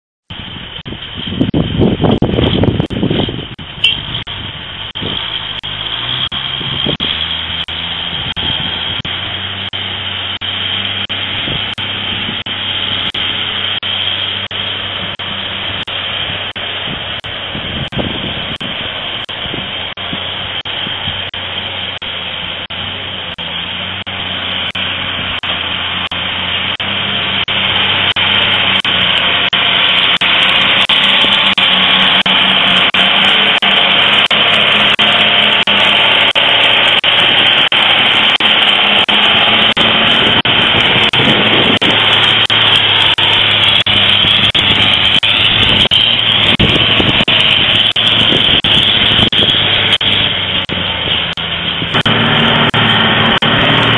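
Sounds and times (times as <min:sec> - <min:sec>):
heavy truck engine running: 0:00.2 - 0:53.9.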